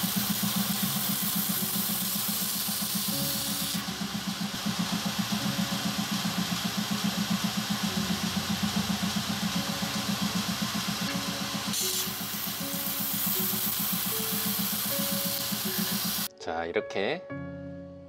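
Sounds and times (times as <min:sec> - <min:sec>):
belt sander grinding knife blade: 0:00.0 - 0:07.2, 0:08.9 - 0:16.3.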